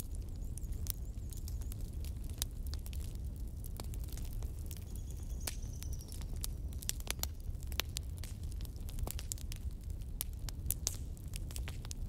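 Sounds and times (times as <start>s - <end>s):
low rumble of flames: 0.0s - 12.0s
wood fire crackling and popping: 0.0s - 12.0s.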